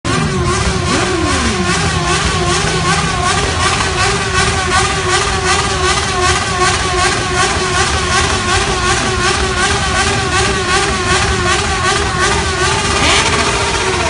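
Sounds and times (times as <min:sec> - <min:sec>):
motorcycle engines revving: 0:00.1 - 0:14.0.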